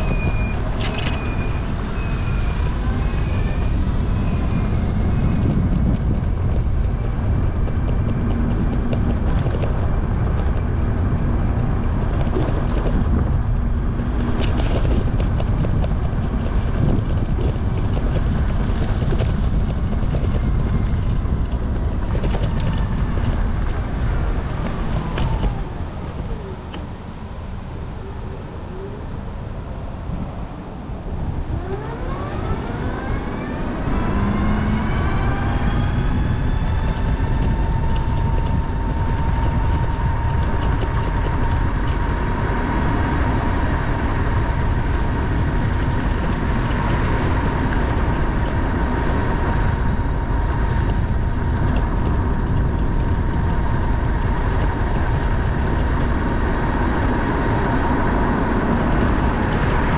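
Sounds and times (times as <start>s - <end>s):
heavy wind: 0.0s - 59.9s
road rumble: 0.0s - 59.9s
trike engine whine: 0.0s - 59.9s.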